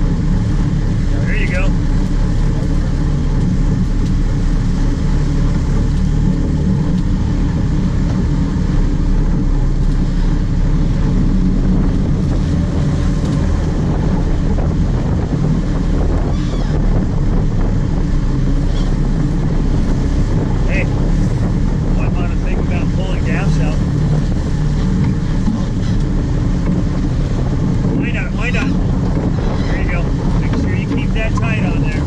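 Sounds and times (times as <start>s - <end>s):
boat engine humming: 0.0s - 32.0s
wind buffeting microphone: 0.0s - 32.0s.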